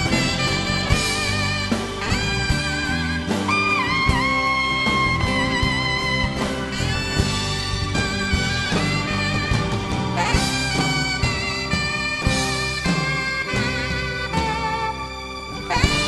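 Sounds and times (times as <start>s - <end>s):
drums: 0.0s - 16.0s
electric guitar: 0.0s - 16.0s
saxophone solo: 0.0s - 16.0s.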